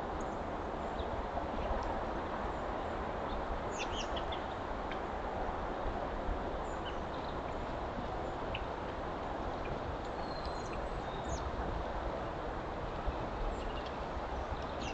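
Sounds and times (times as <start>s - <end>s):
outdoor background hiss: 0.0s - 14.9s.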